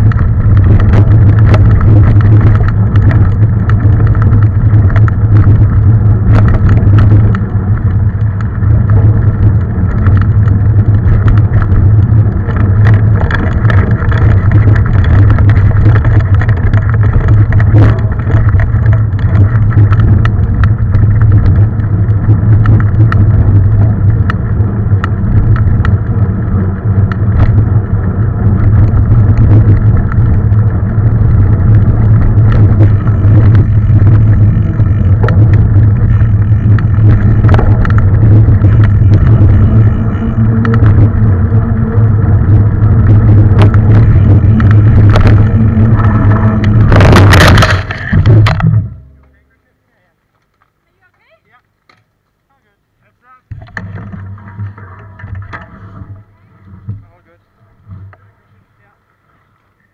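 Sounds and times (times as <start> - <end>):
bike rattling and knocking: 0.0 - 49.5, 53.5 - 58.9
wind and tyres rumbling: 0.0 - 59.9.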